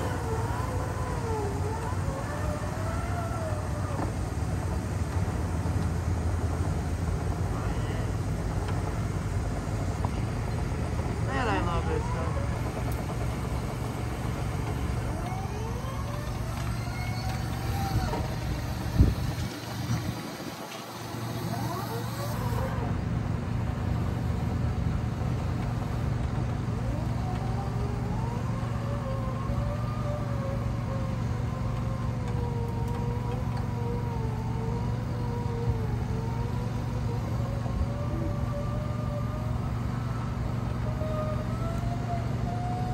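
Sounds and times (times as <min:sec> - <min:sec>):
air compressor rumbling: 0:00.0 - 0:42.9
motor droning with faint whine: 0:00.0 - 0:42.9.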